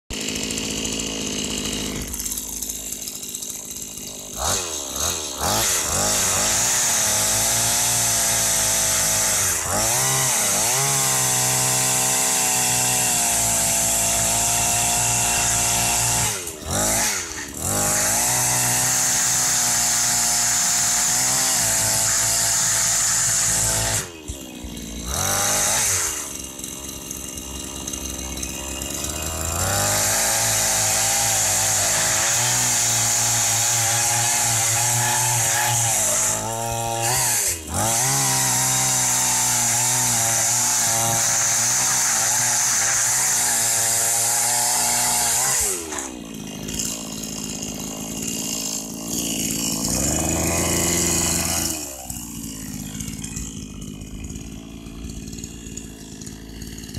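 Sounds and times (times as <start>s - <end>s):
chainsaw cutting through log: 0.1s - 56.9s
two-stroke engine revving and idling: 0.1s - 56.9s.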